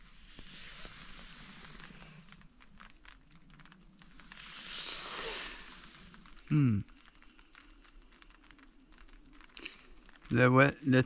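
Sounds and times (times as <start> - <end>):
rain falling on a tent: 0.0 - 11.0.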